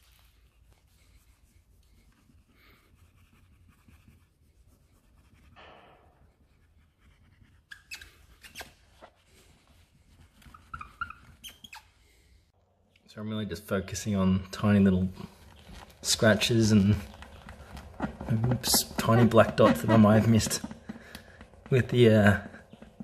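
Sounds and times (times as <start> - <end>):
towel rubbing a wheel: 0.0 - 5.6, 6.3 - 11.9, 15.2 - 23.0.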